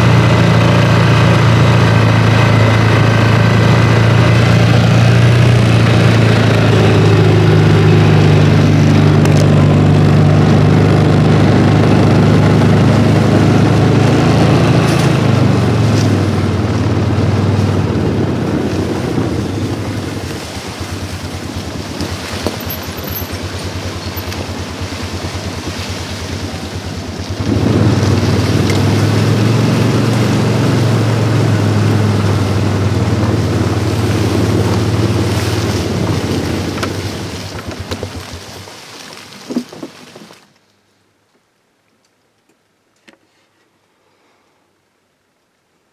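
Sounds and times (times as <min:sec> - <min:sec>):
vehicle engine running: 0:00.0 - 0:40.4.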